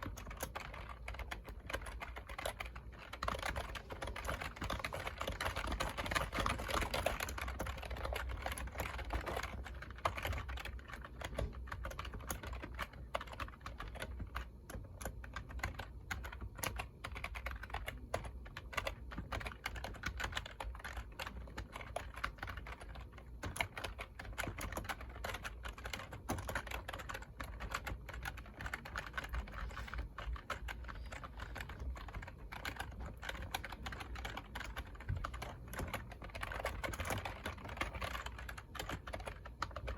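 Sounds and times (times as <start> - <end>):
steady low hum: 0.0 - 39.9
typing on computer keyboard: 0.0 - 39.9.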